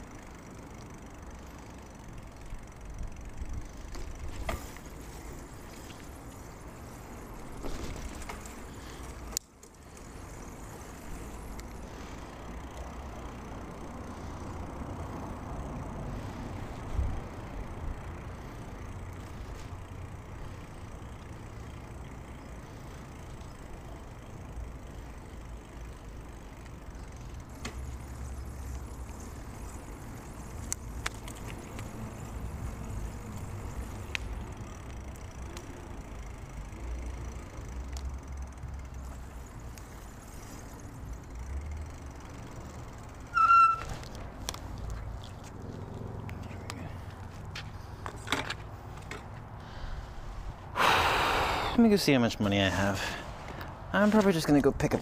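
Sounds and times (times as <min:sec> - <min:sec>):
bicycle road rumble: 0:00.0 - 0:55.0.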